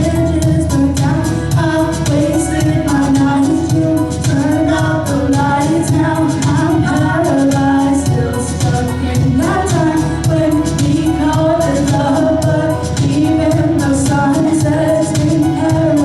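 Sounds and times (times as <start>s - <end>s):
backing track with steady beat: 0.0s - 16.0s
woman singing: 0.0s - 16.0s.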